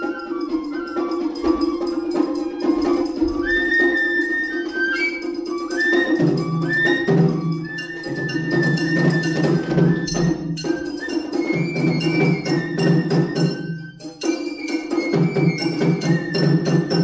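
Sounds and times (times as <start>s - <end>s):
bamboo flute melody: 0.0s - 17.0s
taiko drum strokes: 0.0s - 17.0s.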